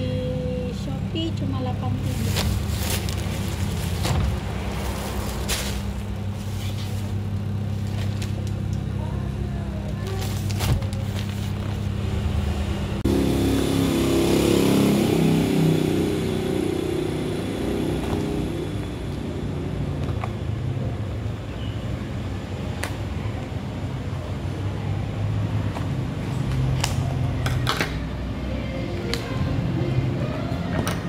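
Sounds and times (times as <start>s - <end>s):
steady low hum: 0.0s - 26.4s
vehicle engine running: 0.0s - 31.0s.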